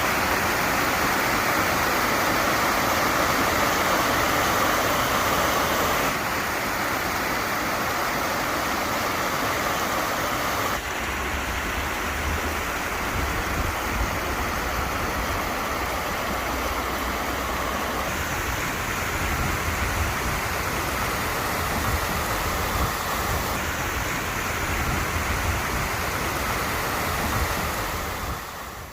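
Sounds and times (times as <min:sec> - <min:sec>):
stream water rushing and splashing: 0:00.0 - 0:28.9.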